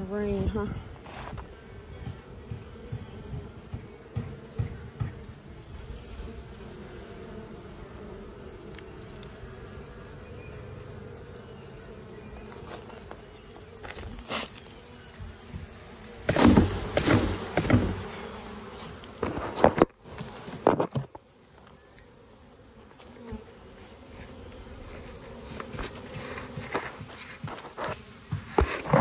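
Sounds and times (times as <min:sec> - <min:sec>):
honeybees humming: 0:00.0 - 0:29.0
knocks of hive frames and tub: 0:00.0 - 0:29.0.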